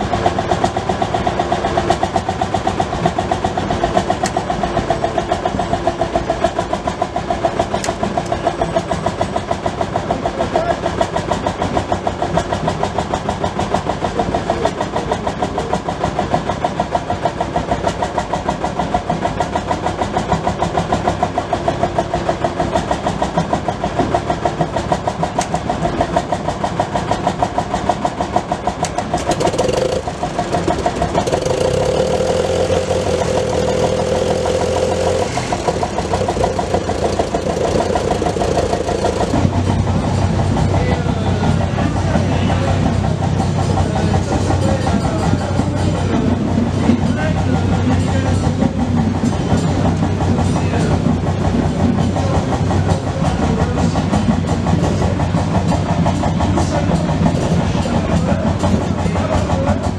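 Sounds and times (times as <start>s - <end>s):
old tractor engine running: 0.0s - 59.9s.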